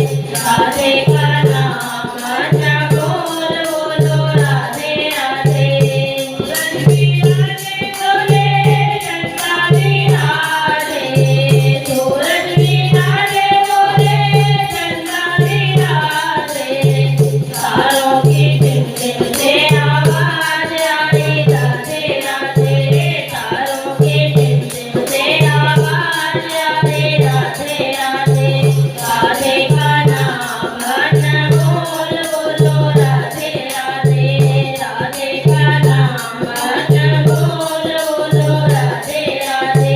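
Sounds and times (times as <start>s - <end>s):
fast jingling percussion: 0.0s - 39.9s.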